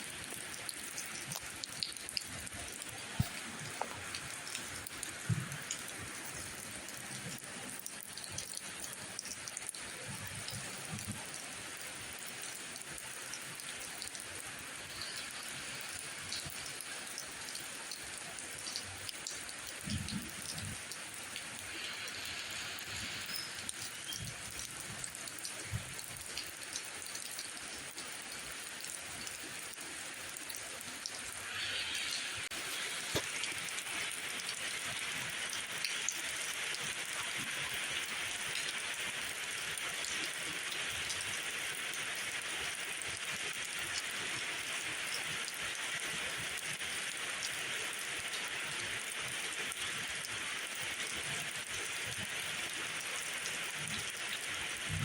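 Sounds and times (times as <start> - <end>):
rain hissing on surfaces: 0.0 - 55.0
raindrop ticks: 0.2 - 55.0.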